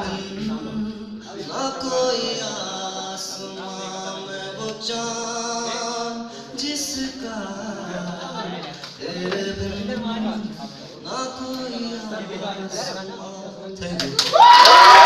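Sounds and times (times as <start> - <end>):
man singing unaccompanied: 0.0 - 14.1.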